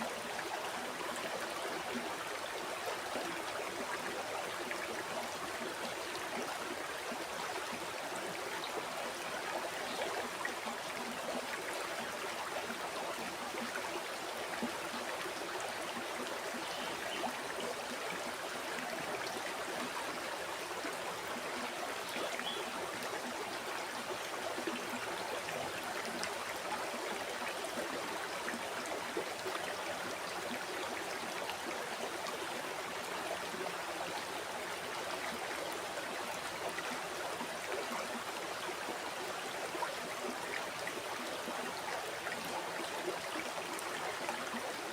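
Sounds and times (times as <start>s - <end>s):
river water flowing over rocks: 0.0s - 44.9s.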